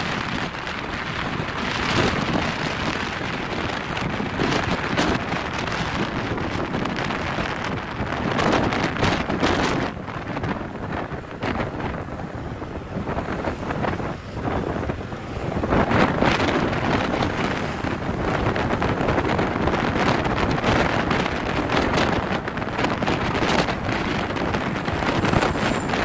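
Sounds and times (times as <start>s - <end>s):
wind buffeting the microphone: 0.0s - 26.0s.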